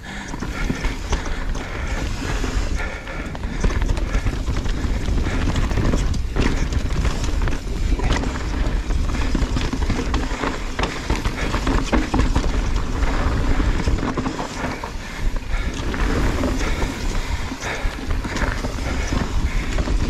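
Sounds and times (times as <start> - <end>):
bike rattling clicks: 0.0 - 20.0
wind rushing over microphone: 0.0 - 20.0
tyres crunching on loose dirt: 0.1 - 20.0.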